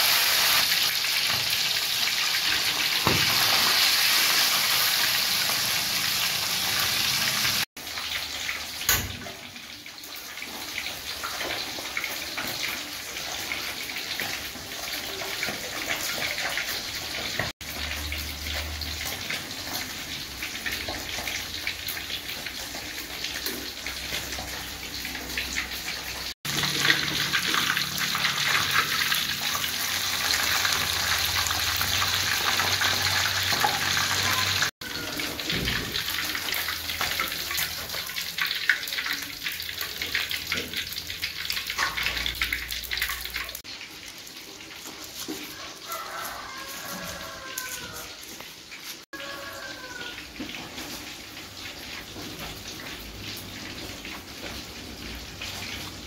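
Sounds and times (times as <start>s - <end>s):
fish frying in hot oil: 0.0s - 56.0s.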